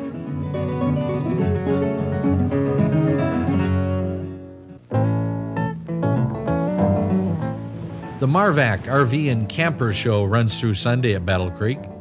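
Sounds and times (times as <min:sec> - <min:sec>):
instrumental music with plucked guitar: 0:00.0 - 0:12.0.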